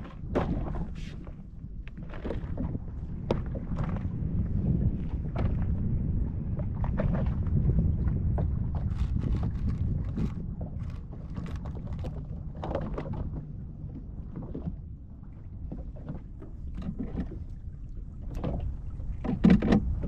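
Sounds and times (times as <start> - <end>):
knocks and clunks on boat: 0.0 - 20.0
low rumble: 0.0 - 20.0.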